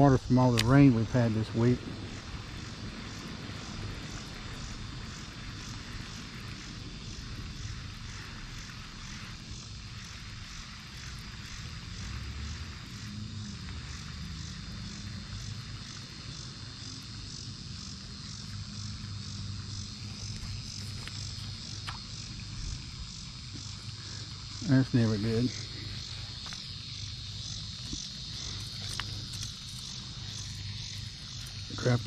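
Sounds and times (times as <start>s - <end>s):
insects chirping: 0.0s - 32.0s
low engine drone: 0.0s - 32.0s.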